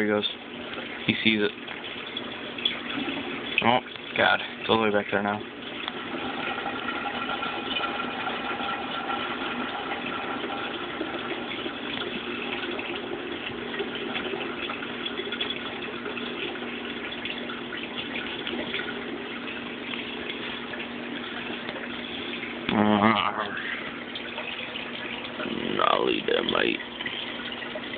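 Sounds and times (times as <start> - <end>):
aquarium water rushing: 0.0 - 27.9
low steady hum: 0.0 - 27.9.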